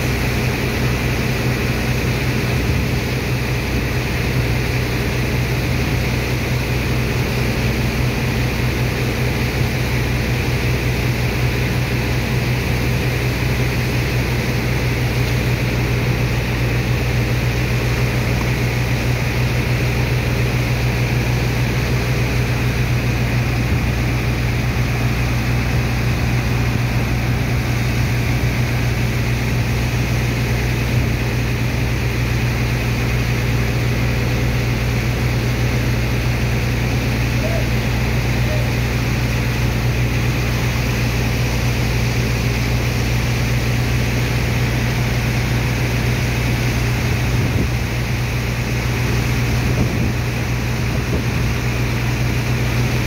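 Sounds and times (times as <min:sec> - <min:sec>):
pump machinery droning: 0:00.0 - 0:53.0.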